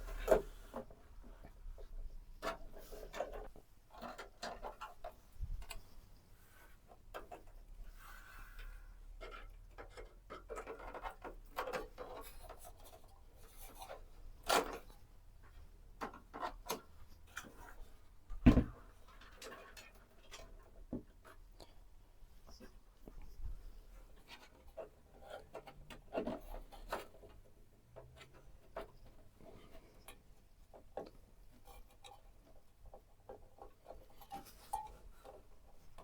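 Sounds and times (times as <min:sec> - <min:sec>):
small clicks and scrapes: 0:00.0 - 0:36.0.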